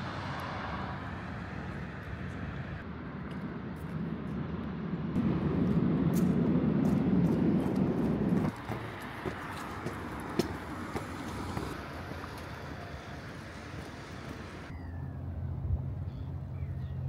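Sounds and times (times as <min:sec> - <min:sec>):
city background noise: 0:00.0 - 0:17.0.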